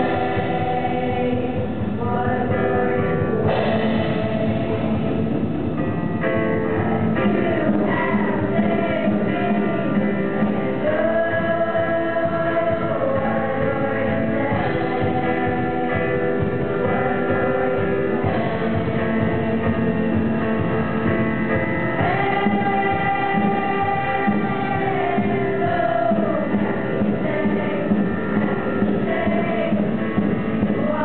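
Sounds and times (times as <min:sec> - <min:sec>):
group singing worship song: 0:00.0 - 0:05.9, 0:06.5 - 0:31.0
live band with guitars and drums: 0:00.0 - 0:31.0.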